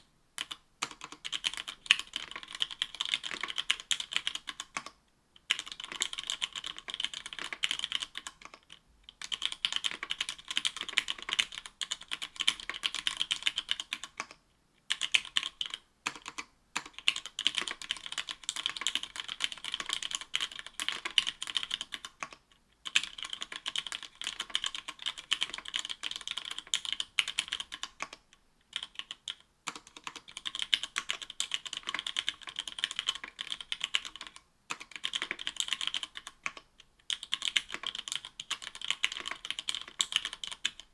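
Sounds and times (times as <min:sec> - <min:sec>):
fast mechanical keyboard typing: 0:00.4 - 0:40.9.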